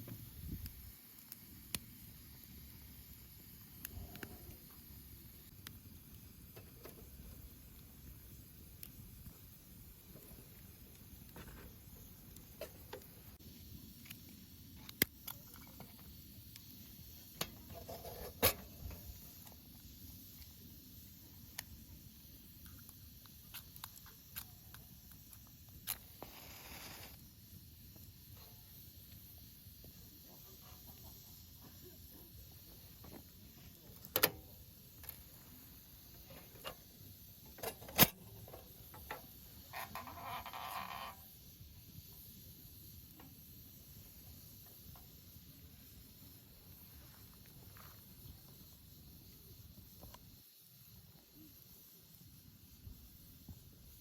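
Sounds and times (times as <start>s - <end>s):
wood fire crackling: 0.0s - 50.4s.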